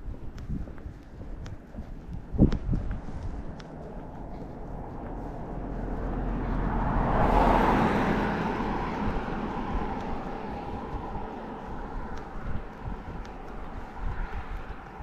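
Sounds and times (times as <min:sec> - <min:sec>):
vehicle passing: 0:00.8 - 0:15.0.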